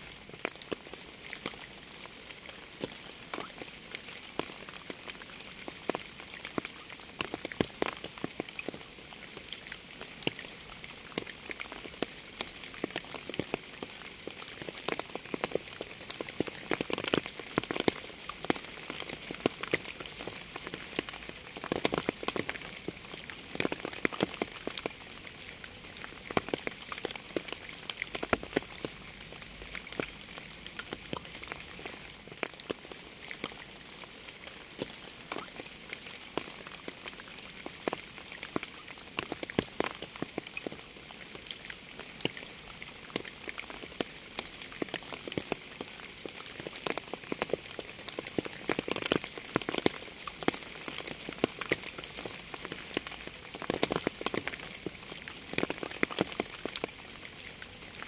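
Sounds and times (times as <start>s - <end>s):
rain hiss: 0.0s - 58.0s
raindrops ticking: 0.2s - 58.0s.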